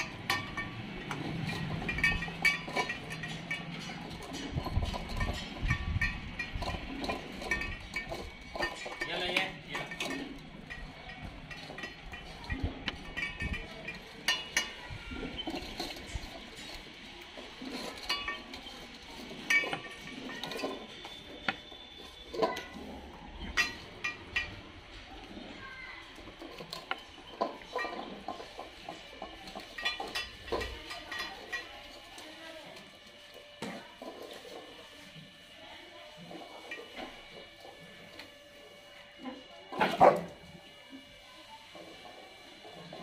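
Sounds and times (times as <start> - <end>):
metal dog bowls clinking: 0.0 - 34.8, 36.2 - 38.2.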